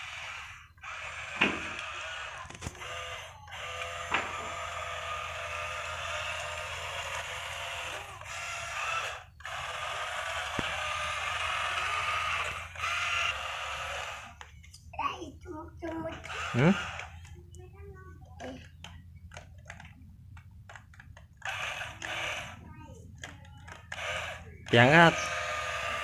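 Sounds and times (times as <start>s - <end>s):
toy electric motors whirring: 0.0s - 15.2s, 15.8s - 26.0s.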